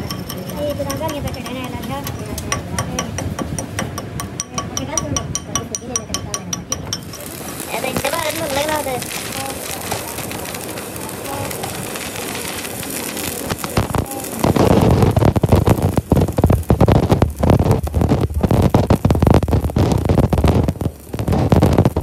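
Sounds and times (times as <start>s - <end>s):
welding arc crackling and spitting: 0.0s - 22.0s.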